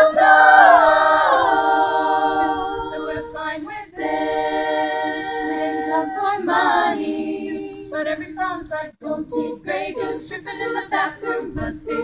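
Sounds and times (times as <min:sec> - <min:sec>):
a cappella choir singing: 0:00.0 - 0:12.0.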